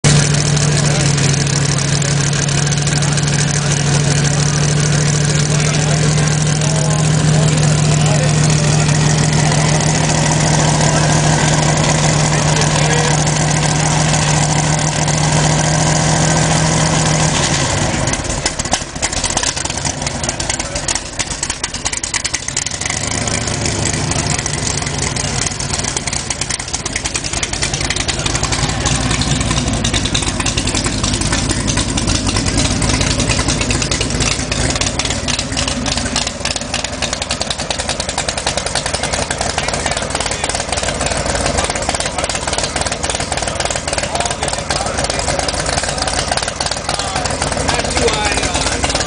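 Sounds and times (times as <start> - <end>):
car engine rough idle: 0.0 - 49.0.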